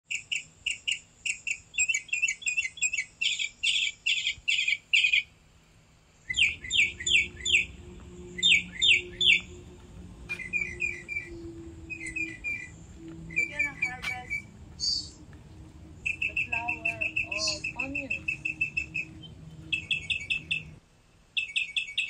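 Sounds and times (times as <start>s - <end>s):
songbirds chirping: 0.1s - 20.8s
faint steady hum: 0.1s - 21.4s.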